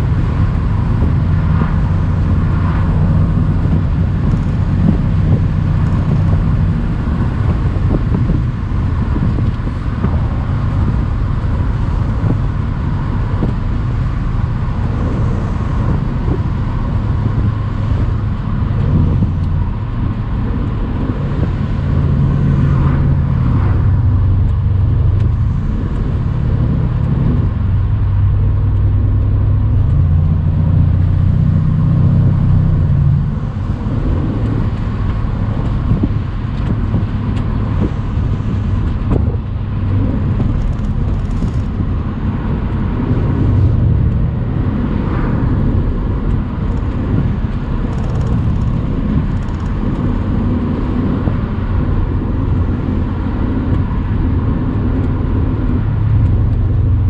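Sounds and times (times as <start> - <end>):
car engine running steadily: 0.0 - 57.0
road noise: 0.0 - 57.0.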